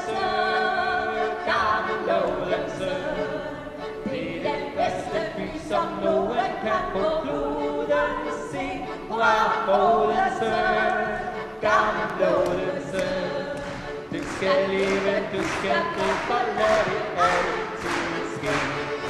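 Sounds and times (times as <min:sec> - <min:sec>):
accordion playing: 0:00.0 - 0:19.0
fiddle playing: 0:00.0 - 0:19.0.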